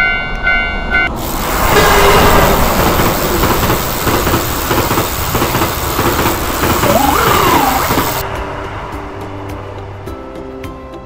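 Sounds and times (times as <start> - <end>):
train rushing by: 0.4 - 10.6.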